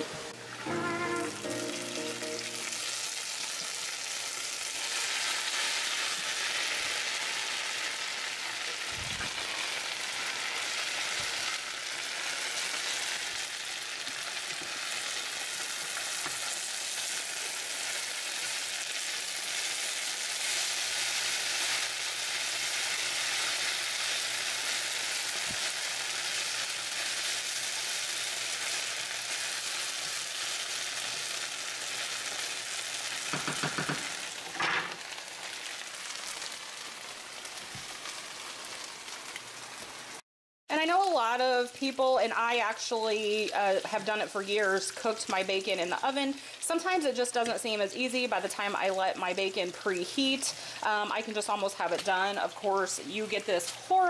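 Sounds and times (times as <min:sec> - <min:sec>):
potatoes sizzling in hot oil: 0:00.0 - 0:40.2, 0:40.8 - 0:54.0.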